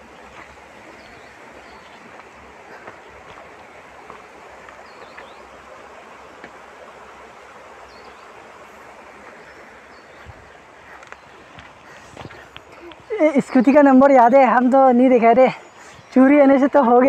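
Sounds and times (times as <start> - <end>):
rushing waterfall: 0.0 - 14.8.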